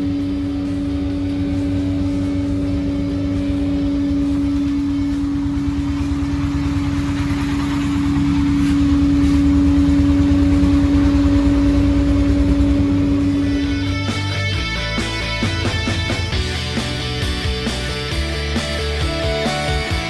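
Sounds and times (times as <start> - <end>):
low pulsing rumble: 0.0 - 20.0
machine hum: 0.0 - 20.0.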